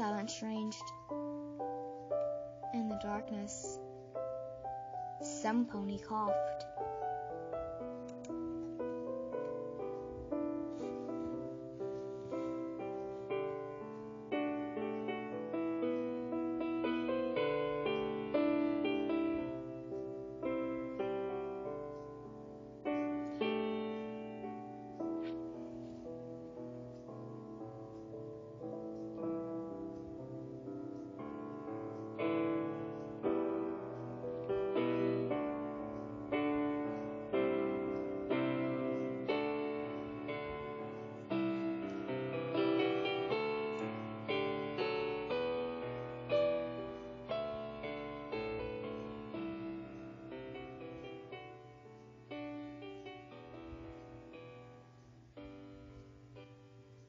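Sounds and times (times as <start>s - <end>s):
slow piano chords: 0.0s - 57.0s.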